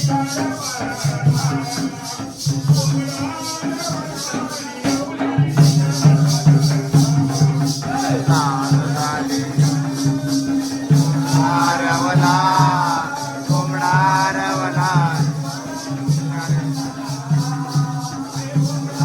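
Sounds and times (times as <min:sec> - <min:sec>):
drum beat: 0:00.0 - 0:19.0
jingling percussion: 0:00.0 - 0:19.0
person singing wordless melody: 0:00.0 - 0:19.0.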